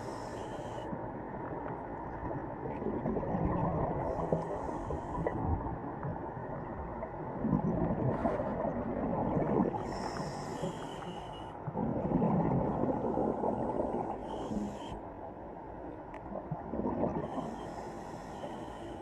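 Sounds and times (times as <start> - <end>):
underwater-sounding rumble: 0.0 - 18.8.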